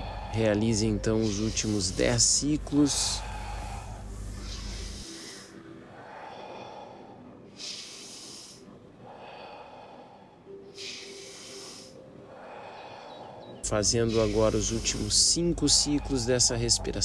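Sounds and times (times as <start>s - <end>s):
person breathing forcefully: 0.0s - 17.0s.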